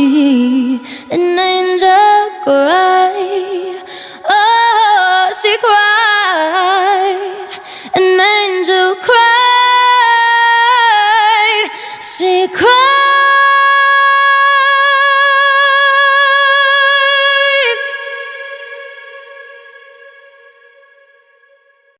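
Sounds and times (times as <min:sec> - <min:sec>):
woman singing a cappella: 0:00.0 - 0:21.3.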